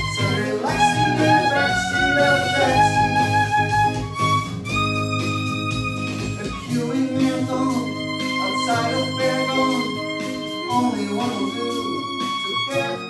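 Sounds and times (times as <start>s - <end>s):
electric guitar chords: 0.0s - 13.0s
electric violin melody: 0.0s - 13.0s.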